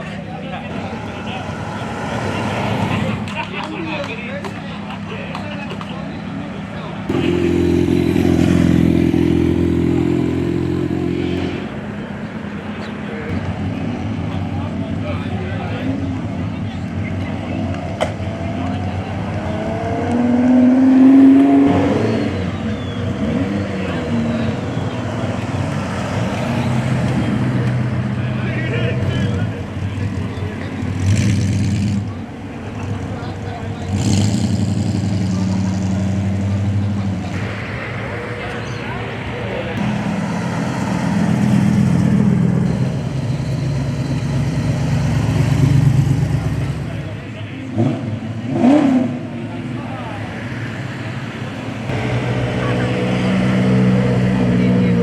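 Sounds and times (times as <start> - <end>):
car engine revving: 7.0 - 12.0, 12.6 - 55.0.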